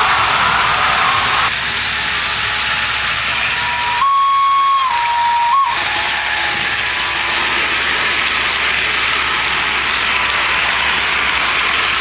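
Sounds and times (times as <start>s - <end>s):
model train running gear hiss: 0.0s - 12.0s
thin motor whine: 0.0s - 12.0s.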